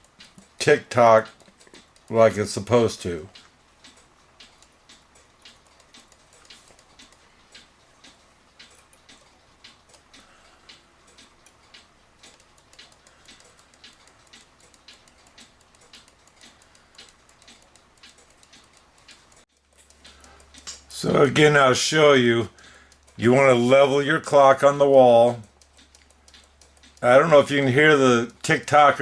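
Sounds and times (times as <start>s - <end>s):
clock ticking faintly: 0.0s - 29.0s.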